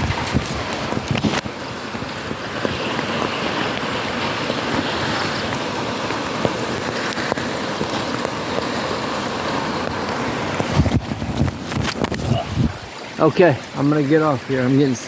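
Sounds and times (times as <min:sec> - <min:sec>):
raindrops ticking close by: 0:00.0 - 0:15.0
steady rain falling: 0:00.0 - 0:15.0.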